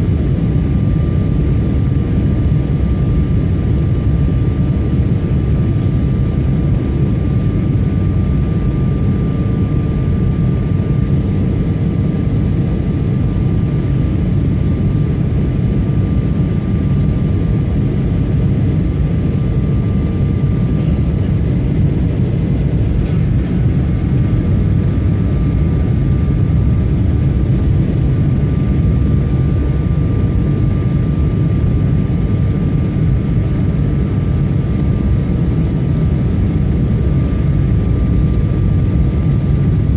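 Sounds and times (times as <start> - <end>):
jet engine and airflow rush: 0.0 - 39.9
thin constant whine: 0.0 - 39.9.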